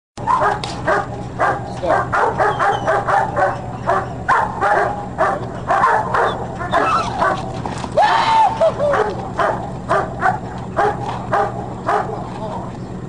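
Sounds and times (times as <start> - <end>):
dog barking rapidly: 0.2 - 7.6, 8.8 - 12.3.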